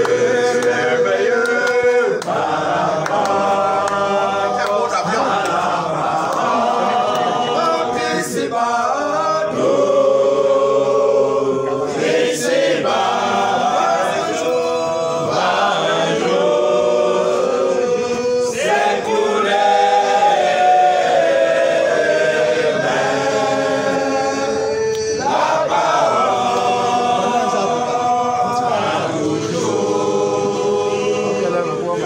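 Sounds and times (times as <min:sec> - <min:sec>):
group singing without instruments: 0:00.0 - 0:32.0.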